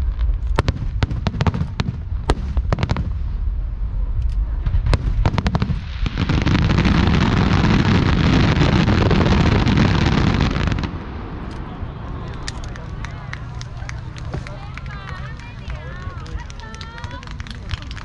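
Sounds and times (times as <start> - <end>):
low rumble: 0.0 - 15.9
fireworks bangs: 0.0 - 18.0
fireworks barrage: 0.0 - 18.0.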